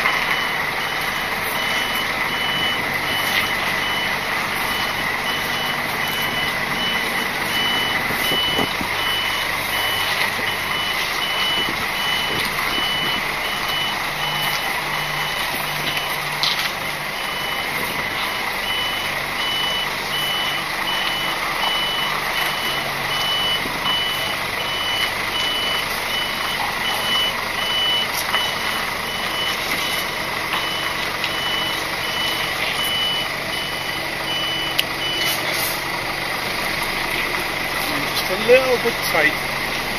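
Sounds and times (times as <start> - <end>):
diesel engine running: 0.0 - 39.9
reversing alarm beeping: 0.0 - 39.9.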